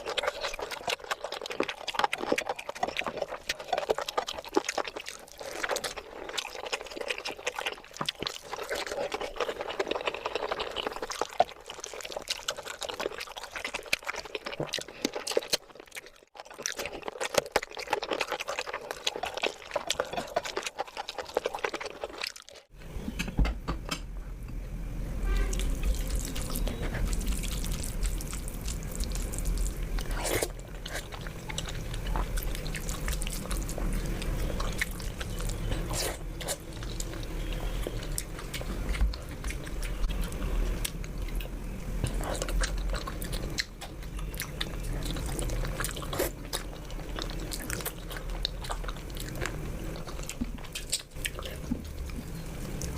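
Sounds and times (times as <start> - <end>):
wet eating clicks and smacks: 0.0 - 22.7, 25.9 - 52.9.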